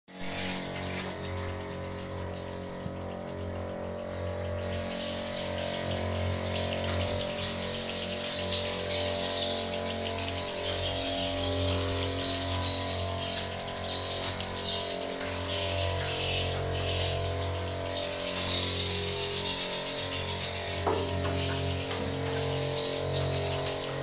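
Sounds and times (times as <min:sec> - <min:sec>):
low mechanical hum: 0:00.1 - 0:24.0.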